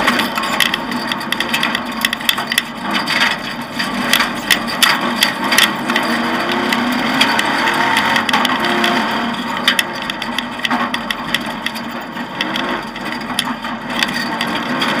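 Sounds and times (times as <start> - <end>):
car engine under load: 0.0 - 15.0
car rattling over gravel: 0.0 - 15.0.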